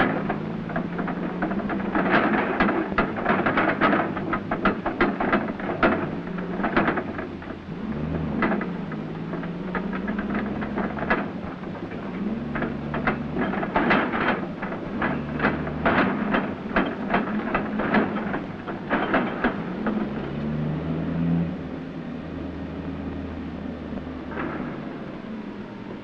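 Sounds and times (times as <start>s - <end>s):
engine running: 0.0s - 26.0s
metal clanks and knocks: 0.0s - 26.0s.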